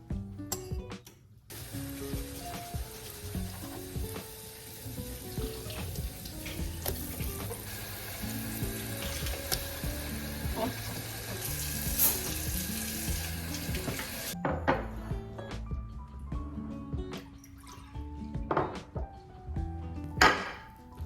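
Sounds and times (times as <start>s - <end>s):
music with melodic bass line: 0.0s - 1.0s, 1.6s - 21.0s.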